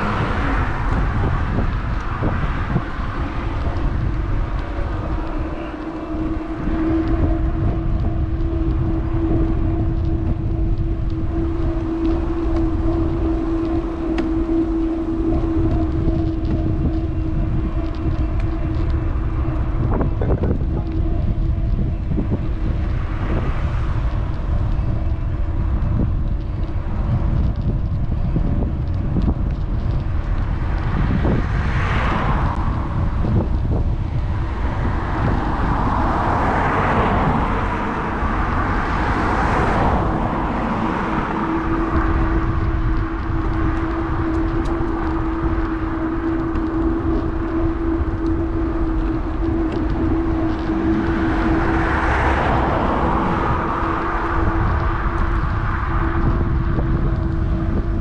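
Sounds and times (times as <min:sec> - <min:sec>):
road traffic passing: 0:00.0 - 0:58.0
steady hum: 0:00.0 - 0:58.0
wind rumbling on microphone: 0:00.0 - 0:58.0.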